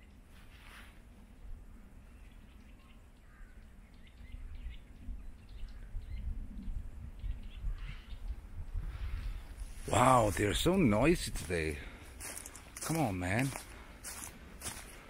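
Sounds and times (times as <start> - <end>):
wind rumbling on microphone: 0.0 - 15.0
birds chirping: 1.2 - 15.0.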